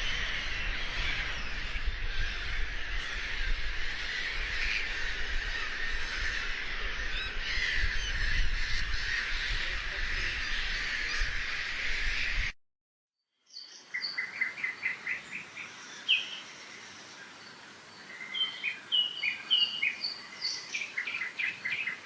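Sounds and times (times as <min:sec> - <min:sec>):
chorus of birds calling: 0:00.0 - 0:12.5, 0:13.5 - 0:22.0.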